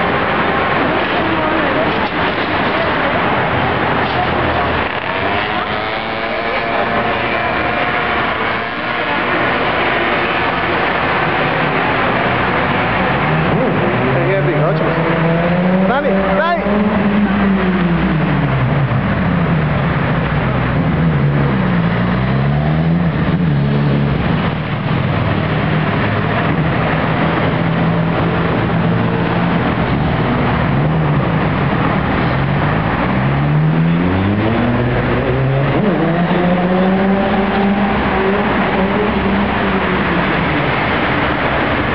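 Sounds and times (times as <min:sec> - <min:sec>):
cars driving past: 0:00.0 - 0:41.9
traffic rumble: 0:00.0 - 0:41.9.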